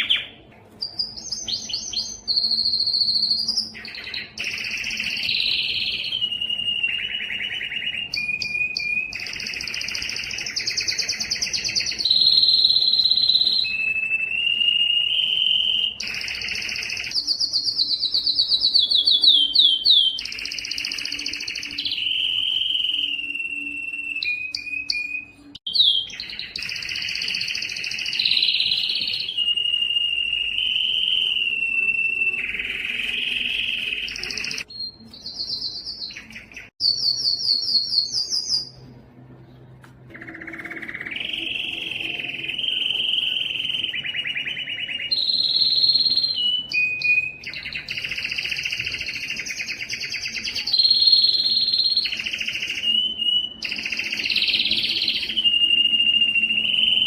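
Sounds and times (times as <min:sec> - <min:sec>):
canary singing trills: 0:00.0 - 0:38.9, 0:40.1 - 0:57.0.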